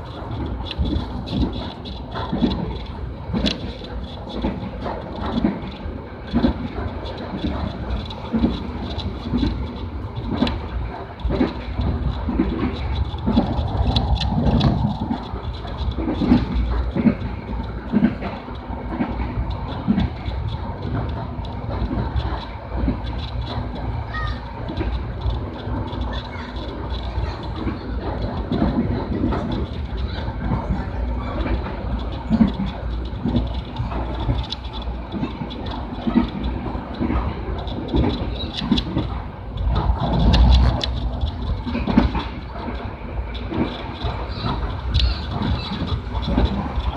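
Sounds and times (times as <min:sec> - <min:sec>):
train rumble: 0:00.0 - 0:46.9
train wheels clacking: 0:00.0 - 0:46.9.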